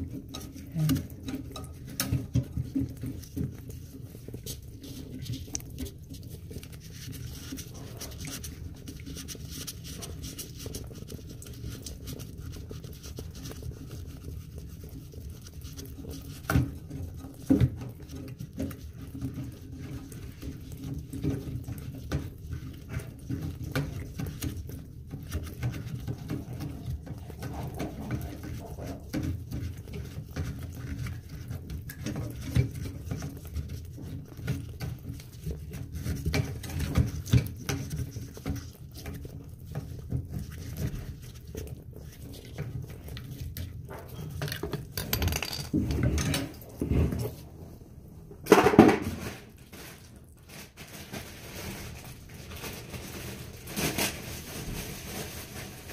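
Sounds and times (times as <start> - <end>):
scratchy rubbing and clicking: 0.0 - 45.1.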